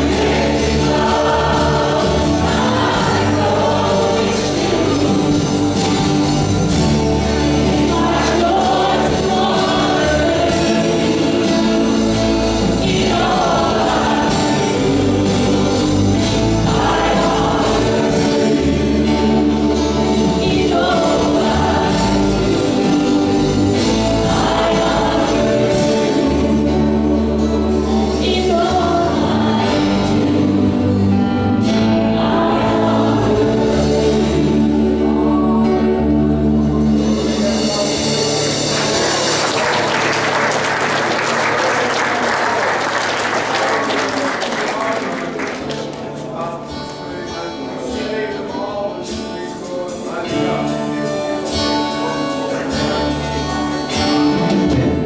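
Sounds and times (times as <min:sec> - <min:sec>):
congregation singing praise song: 0:00.0 - 0:55.0
live band playing: 0:00.0 - 0:55.0.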